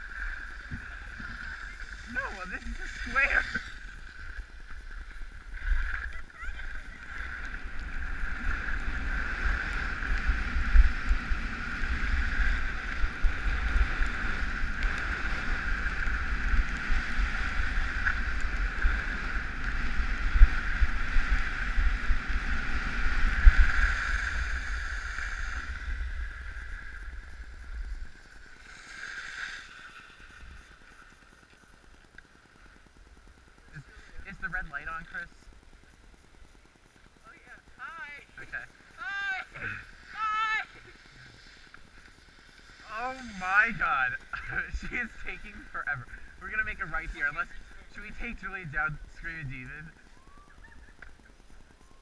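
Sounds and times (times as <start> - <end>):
skis hissing over snow: 0.0 - 31.8, 39.0 - 51.6.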